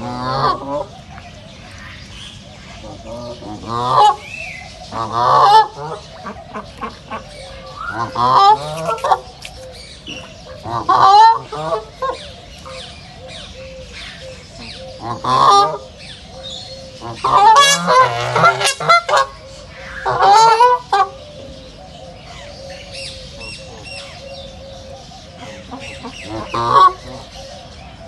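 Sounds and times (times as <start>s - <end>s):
ducks quacking: 0.0s - 13.6s, 14.3s - 16.0s, 16.8s - 21.5s, 25.3s - 28.0s.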